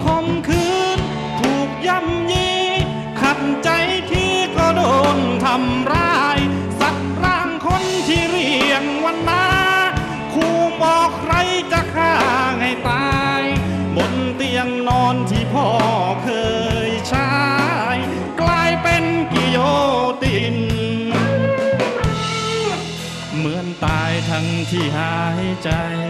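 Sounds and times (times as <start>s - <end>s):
live rock band playing: 0.0s - 26.0s
man singing lead vocal: 0.0s - 26.0s.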